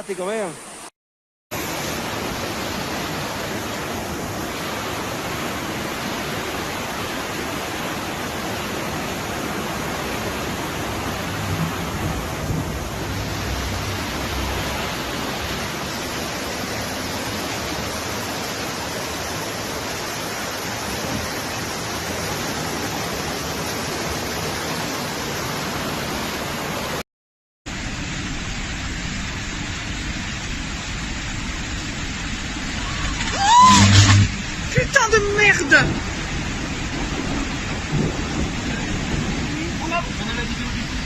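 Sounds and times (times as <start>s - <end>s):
rushing floodwater: 1.6s - 27.0s, 27.8s - 41.0s.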